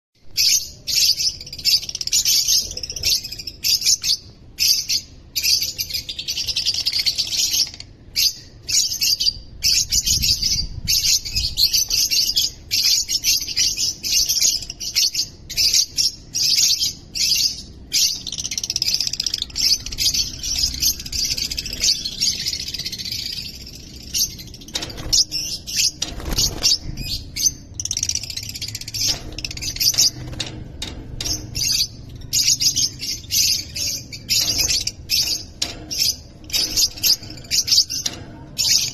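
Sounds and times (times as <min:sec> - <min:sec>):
lovebirds chirping: 0:00.2 - 0:38.9.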